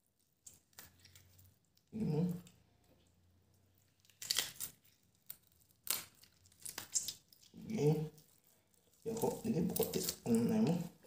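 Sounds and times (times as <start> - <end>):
raw chicken skin tearing: 0.3 - 2.6, 3.8 - 10.8.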